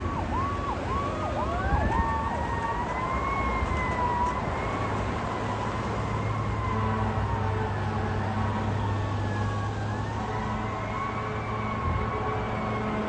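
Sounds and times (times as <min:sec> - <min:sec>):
rising siren tone: 0:00.0 - 0:13.0.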